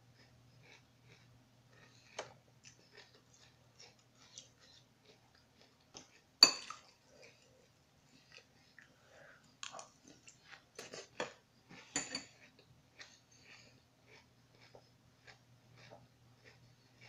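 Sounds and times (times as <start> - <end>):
chewing crunchy cereal: 0.1 - 17.0.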